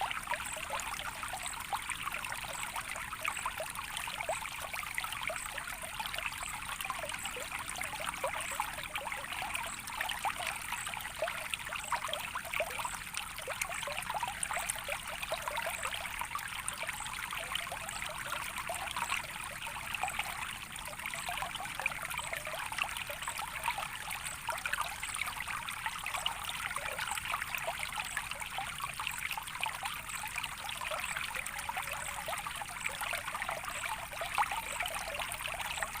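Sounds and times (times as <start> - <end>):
water trickling: 0.0 - 36.0.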